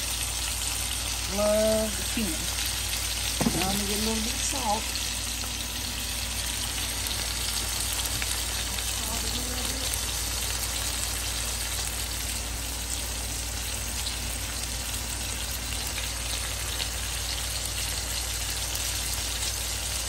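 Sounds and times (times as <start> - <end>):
chicken sizzling in a skillet: 0.0 - 20.0.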